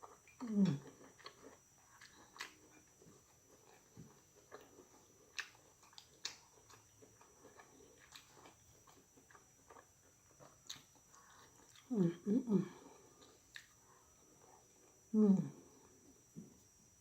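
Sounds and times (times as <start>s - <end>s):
faint chewing: 0.0s - 16.8s.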